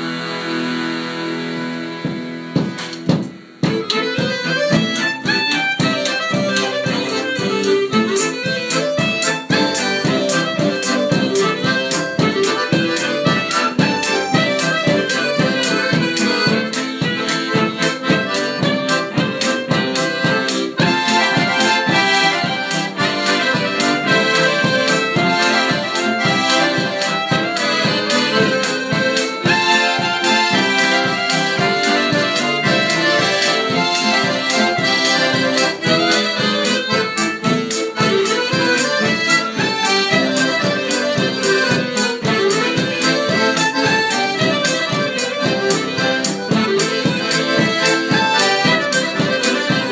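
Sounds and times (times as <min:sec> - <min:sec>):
accordions cello and clarinet band: 0:00.0 - 0:49.9
steady drum beat: 0:01.9 - 0:49.9.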